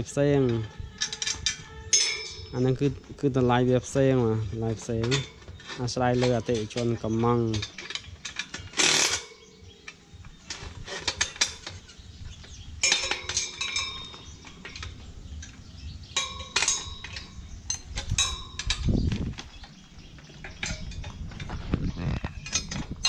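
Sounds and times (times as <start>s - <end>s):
metal tools clinking on steel: 0.0s - 21.6s, 22.3s - 23.0s.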